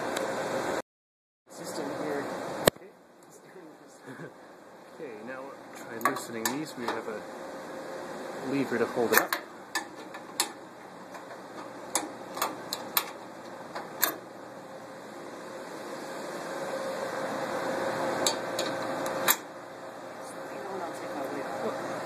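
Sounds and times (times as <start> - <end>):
faint hum: 1.5 - 22.0.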